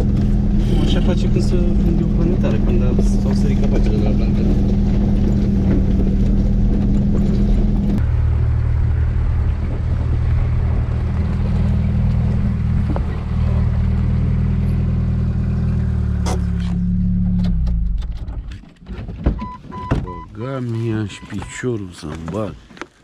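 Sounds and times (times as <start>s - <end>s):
off-road vehicle engine running: 0.0s - 18.6s.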